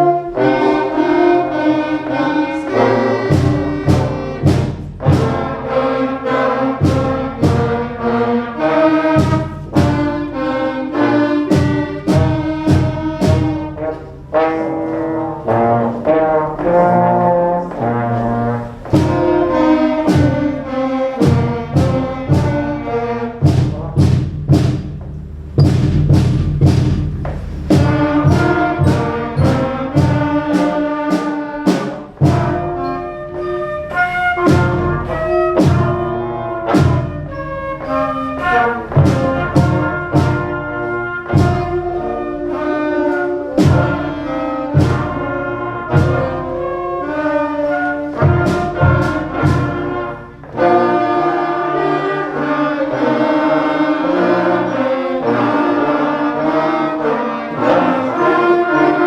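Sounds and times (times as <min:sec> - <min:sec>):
percussion strokes: 0:00.0 - 0:56.9
brass melody: 0:00.0 - 0:59.0
concert band playing: 0:00.0 - 0:59.0.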